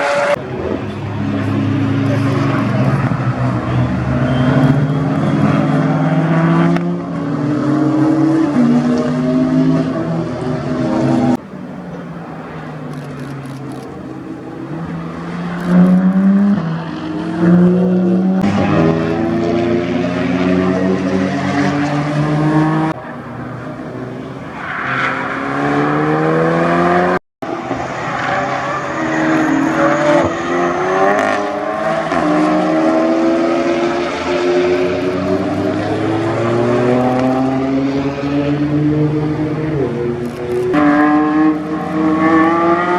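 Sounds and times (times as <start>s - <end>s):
race car engines slowing and accelerating: 0.0s - 42.9s.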